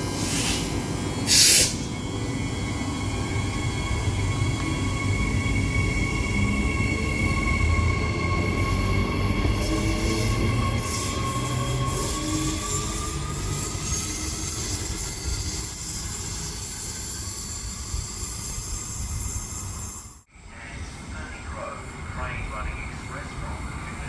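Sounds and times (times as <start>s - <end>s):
high-pitched train squealing: 0.0s - 24.0s
train rumbling: 0.0s - 24.0s.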